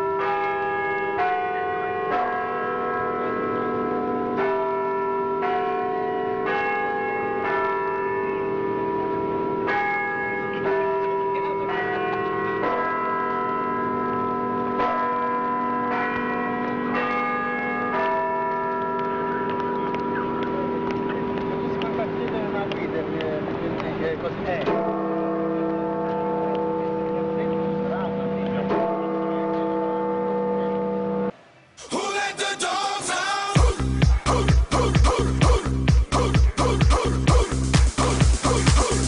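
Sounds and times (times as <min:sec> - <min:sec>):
bells ringing: 0:00.0 - 0:31.4, 0:32.8 - 0:39.0.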